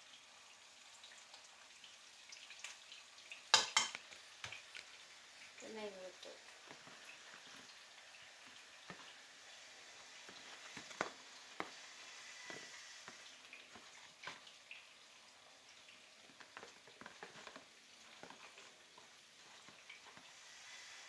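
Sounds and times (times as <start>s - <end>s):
oil sizzling with crackles: 0.0s - 21.0s.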